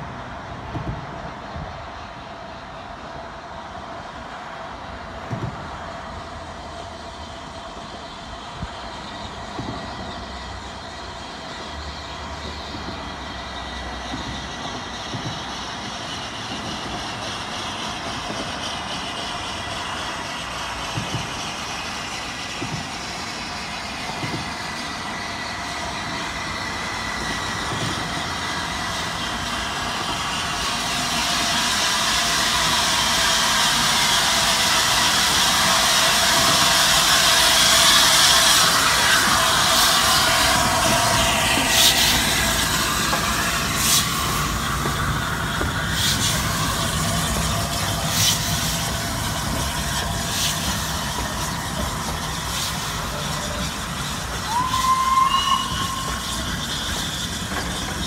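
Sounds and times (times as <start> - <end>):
rushing hiss: 0.0 - 58.0
steam locomotive approaching: 0.0 - 58.0.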